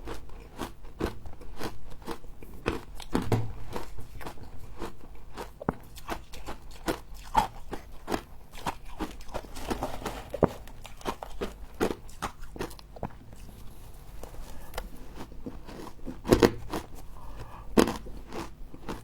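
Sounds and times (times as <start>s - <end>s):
crunching frost being chewed: 0.0s - 19.0s.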